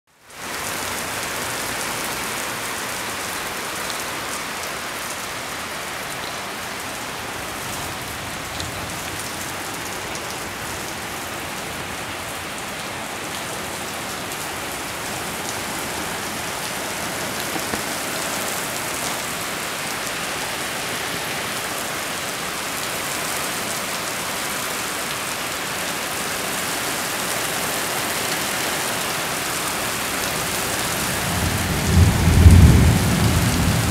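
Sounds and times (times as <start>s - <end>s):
heavy rain on pavement: 0.1s - 33.9s.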